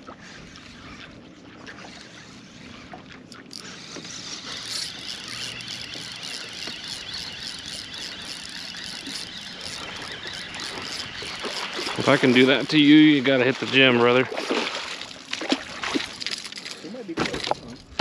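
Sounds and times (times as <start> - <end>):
fishing reel drag buzzing: 0.2 - 18.0.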